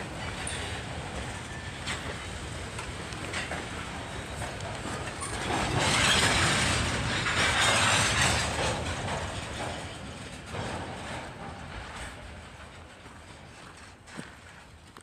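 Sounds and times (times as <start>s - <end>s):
freight train rolling past: 0.0s - 15.0s
wheels clicking over rail joints: 0.0s - 15.0s.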